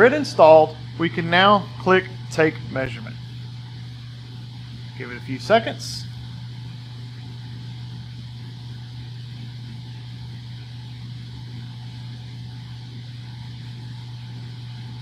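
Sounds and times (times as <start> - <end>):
blower running: 0.0 - 15.0.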